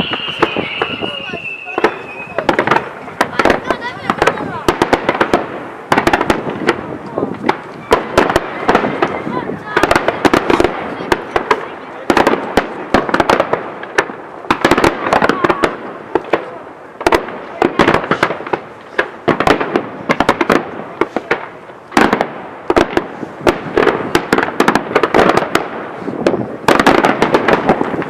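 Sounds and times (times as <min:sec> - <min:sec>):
fireworks bangs: 0:00.0 - 0:28.0
fireworks crackling and popping: 0:00.0 - 0:28.0.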